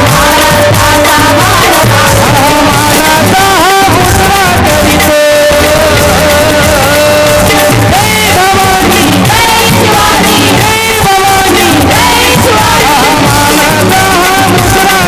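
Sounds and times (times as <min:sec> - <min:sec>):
man singing devotional song: 0:00.0 - 0:15.0
musical accompaniment: 0:00.0 - 0:15.0.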